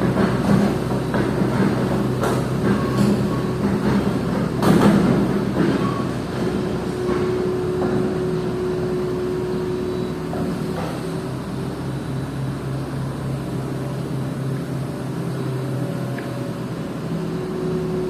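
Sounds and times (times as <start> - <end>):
diesel machinery engine running: 0.0 - 18.0.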